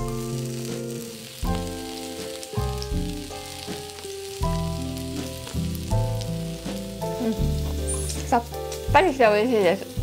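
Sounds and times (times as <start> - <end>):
background music of held notes: 0.0 - 10.0
food sizzling on griddle: 0.0 - 10.0.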